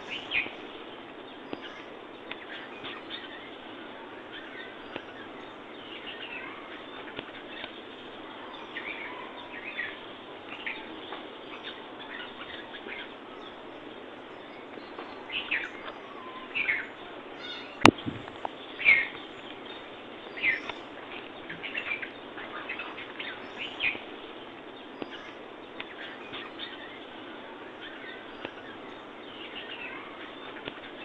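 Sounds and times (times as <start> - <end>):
birds chirping: 0.0 - 31.0
steady background hiss: 0.0 - 31.0.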